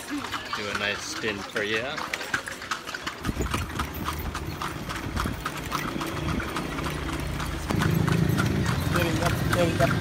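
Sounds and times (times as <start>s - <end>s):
horse hooves trotting on pavement: 0.0s - 10.0s.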